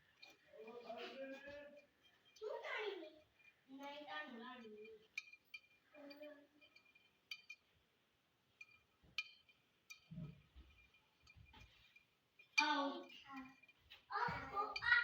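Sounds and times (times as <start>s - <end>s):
faint light clinks: 0.0s - 15.0s.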